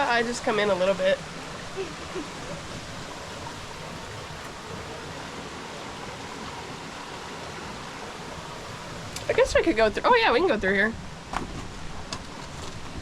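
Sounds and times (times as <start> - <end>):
rush of falling water: 0.0 - 13.0.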